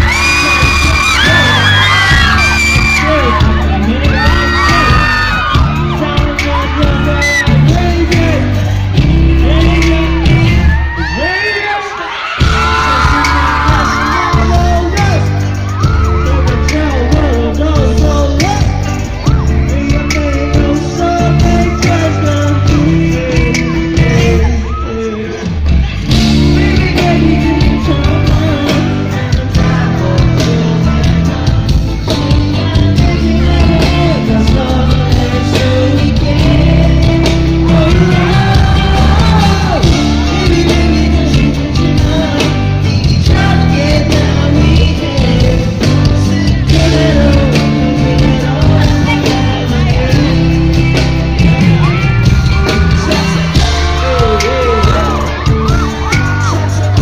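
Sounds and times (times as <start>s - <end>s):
loud pop music with vocals: 0.0s - 57.0s.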